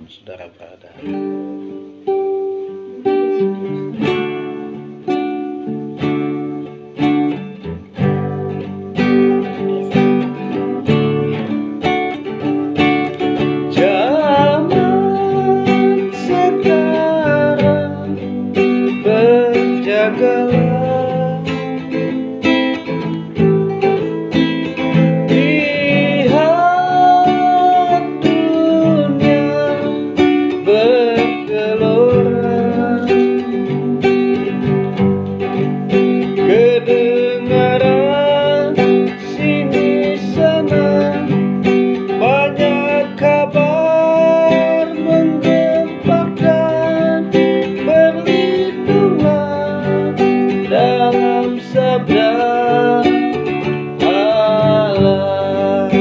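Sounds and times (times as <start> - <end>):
acoustic guitar strumming: 0.0 - 56.0
man singing: 7.3 - 56.0.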